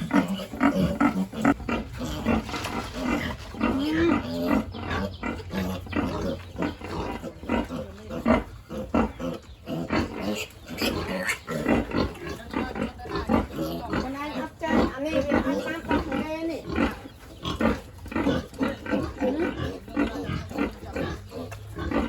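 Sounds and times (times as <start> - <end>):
pigs grunting: 0.0 - 22.0.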